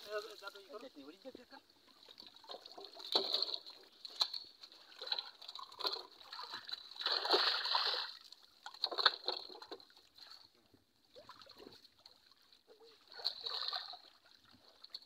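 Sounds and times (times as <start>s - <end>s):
water splashing and sloshing: 0.0s - 15.0s
fish thrashing in water: 1.9s - 15.0s.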